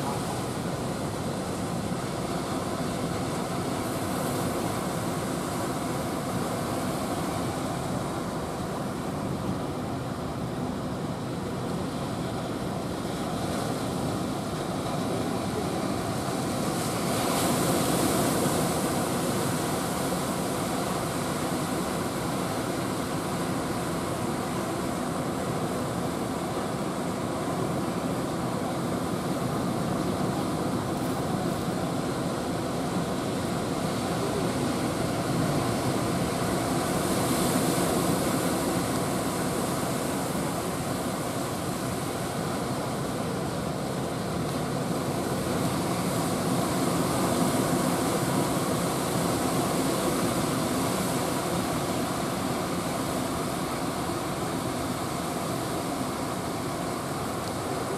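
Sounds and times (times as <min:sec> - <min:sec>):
surf breaking and washing: 0:00.0 - 0:57.9.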